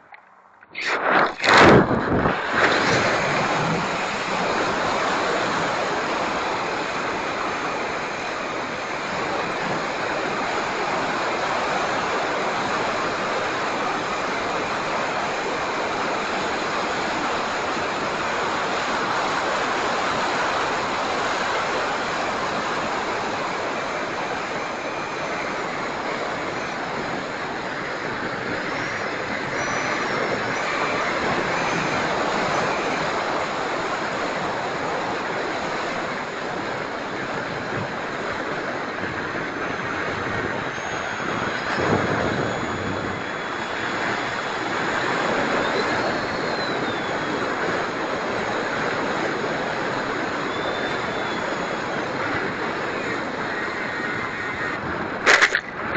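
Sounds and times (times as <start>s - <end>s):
electric jet rushing: 0.0s - 52.0s
high fan whine: 0.0s - 55.9s.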